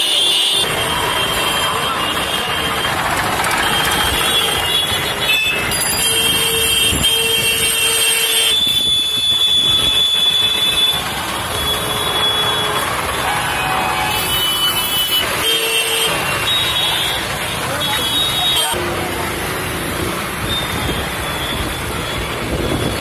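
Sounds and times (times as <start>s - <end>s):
vehicle horns long blasts: 0.0s - 18.8s
motorcycle and car engines: 0.6s - 7.1s, 9.7s - 23.0s.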